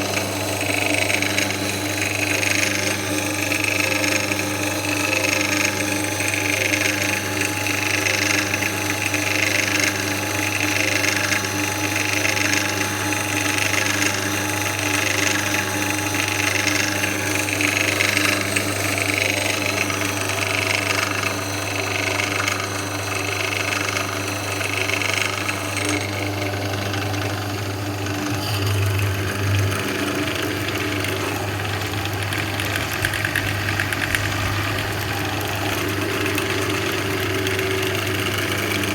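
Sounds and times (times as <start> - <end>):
drill press motor humming: 0.0 - 38.9.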